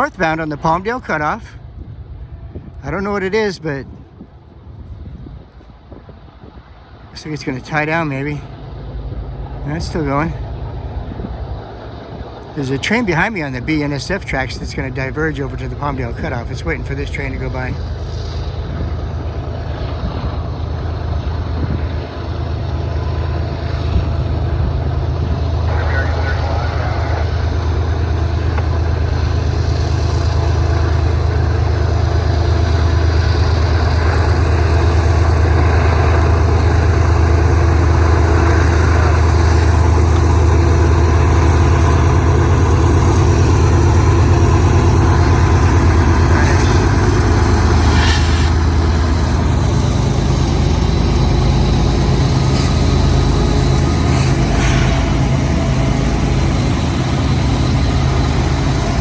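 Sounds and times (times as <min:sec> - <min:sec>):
diesel locomotives droning: 0:00.0 - 0:59.0
freight train rolling past: 0:00.0 - 0:59.0.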